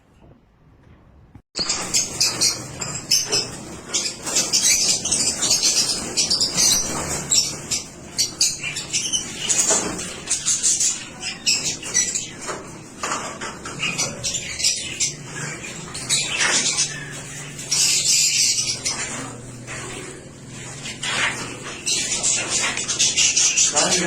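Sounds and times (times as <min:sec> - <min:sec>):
lovebirds chirping and squawking: 0:01.6 - 0:24.0.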